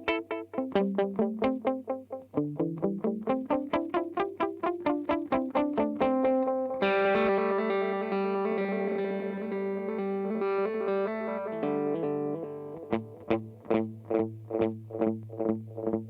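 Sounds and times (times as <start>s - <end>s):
guitar chord ringing with reverb: 0.0s - 15.9s
picked electric guitar notes: 0.0s - 16.0s.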